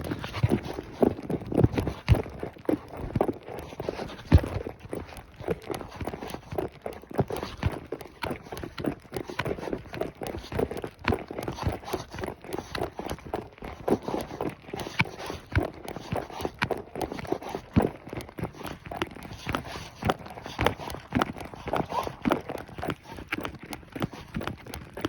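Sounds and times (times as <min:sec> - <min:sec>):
horse hooves clip-clopping: 0:00.0 - 0:25.0.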